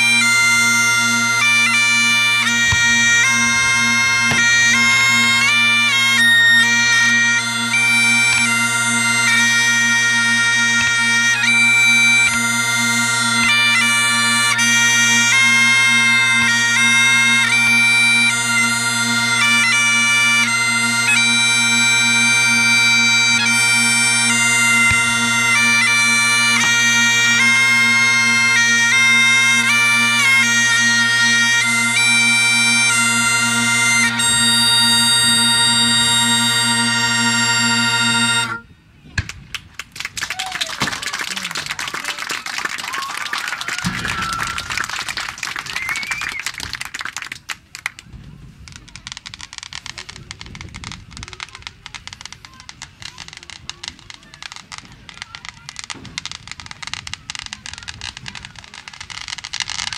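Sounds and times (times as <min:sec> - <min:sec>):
bagpipe melody: 0:00.0 - 0:38.9, 0:50.6 - 0:59.9
bagpipe drones humming: 0:00.0 - 0:39.0, 0:41.0 - 0:47.2, 0:50.6 - 0:59.9.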